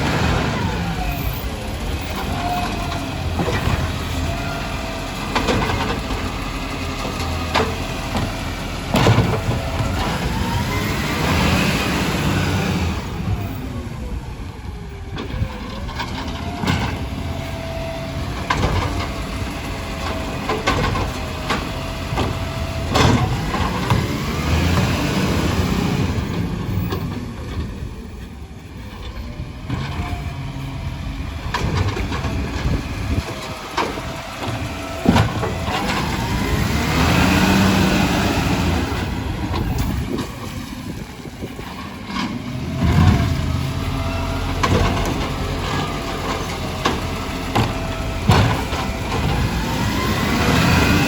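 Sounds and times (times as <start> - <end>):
garbage truck engine running: 0.0 - 51.0.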